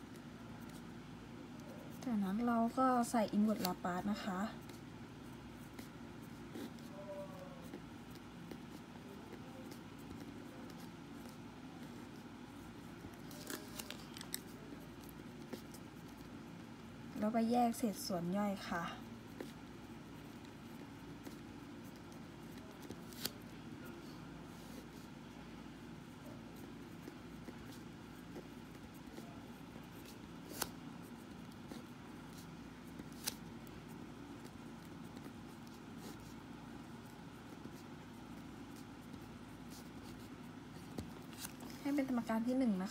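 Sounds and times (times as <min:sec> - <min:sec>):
faint steady hum: 0:00.0 - 0:42.9
pen scratching on paper: 0:01.6 - 0:13.4, 0:14.4 - 0:25.2, 0:26.0 - 0:42.9.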